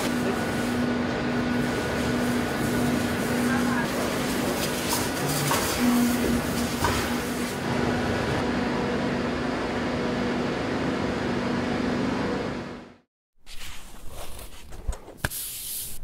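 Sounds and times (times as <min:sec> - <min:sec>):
workshop machinery humming: 0:00.0 - 0:13.1.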